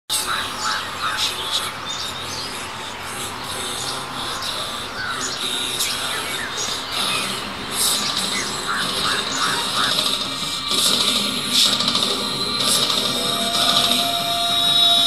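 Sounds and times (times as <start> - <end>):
birds chirping and calling: 0.1 - 15.0
steady background hiss: 0.1 - 15.0.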